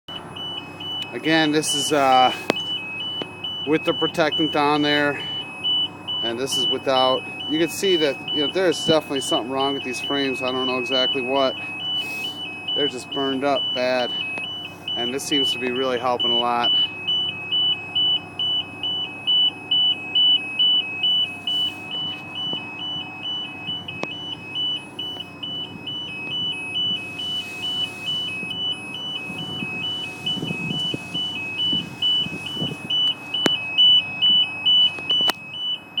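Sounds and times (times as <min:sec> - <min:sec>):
two-tone electronic alarm: 0:00.1 - 0:36.0.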